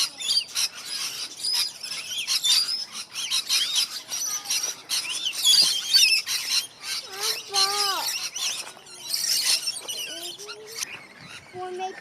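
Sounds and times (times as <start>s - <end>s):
aviary birds chirping: 0.0s - 12.0s.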